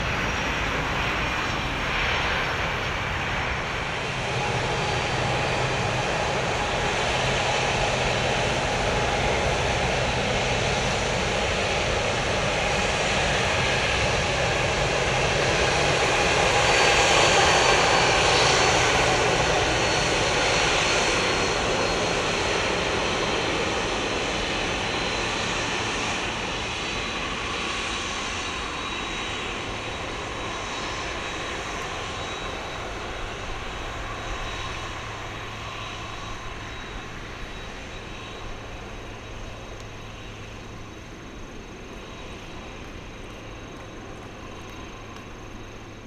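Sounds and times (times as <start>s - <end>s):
jet engine whine: 0.0s - 46.0s.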